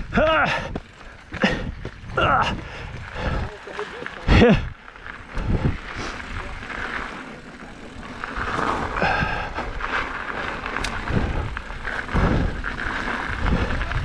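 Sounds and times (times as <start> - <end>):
wind buffeting microphone: 0.0 - 3.6, 4.2 - 14.0
bike tyres crunching on gravel: 0.0 - 14.0.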